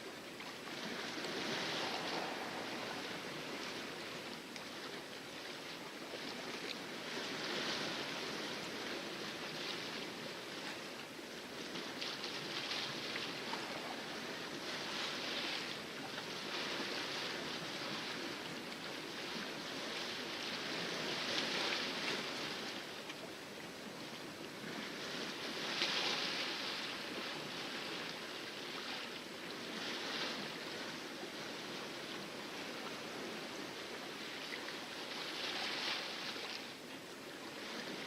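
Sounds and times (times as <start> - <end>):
water rushing along hull: 0.0 - 38.0.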